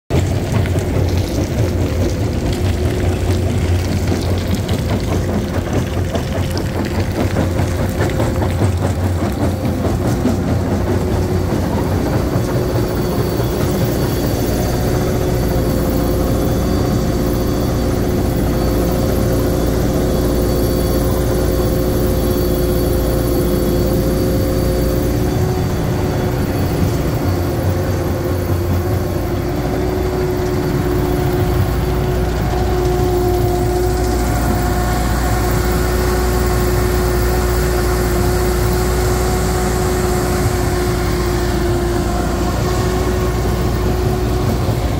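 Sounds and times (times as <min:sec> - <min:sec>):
constant whine: 0:00.1 - 0:44.9
diesel engine rumble: 0:00.1 - 0:44.9.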